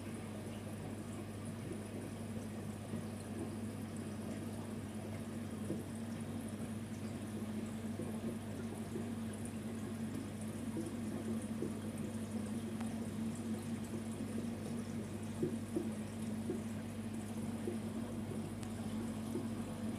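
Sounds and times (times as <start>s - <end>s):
sponge filter bubbling: 0.0s - 19.9s
steady low hum: 0.0s - 19.9s.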